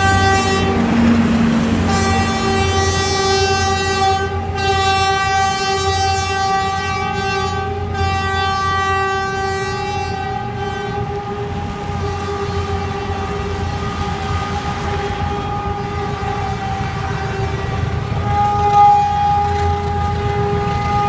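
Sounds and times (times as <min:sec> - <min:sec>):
locomotive horn long blast: 0:00.0 - 0:21.0
low engine rumble: 0:00.0 - 0:21.0.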